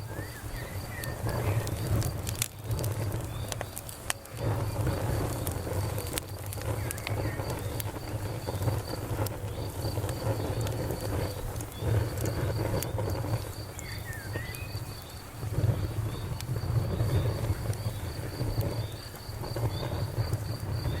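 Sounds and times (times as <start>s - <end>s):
campfire wood crackling: 0.0s - 21.0s
cricket chirping: 0.0s - 21.0s.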